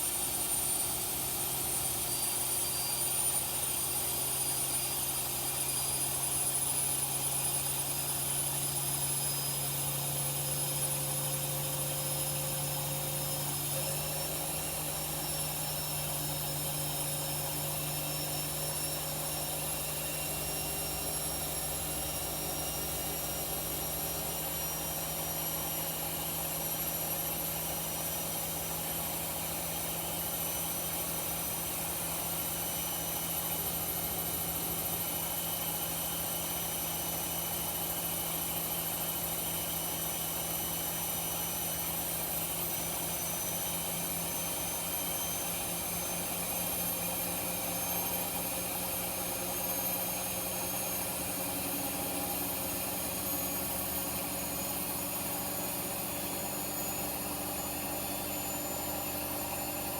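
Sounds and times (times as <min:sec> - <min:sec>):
washing machine spinning: 0:09.0 - 0:59.9.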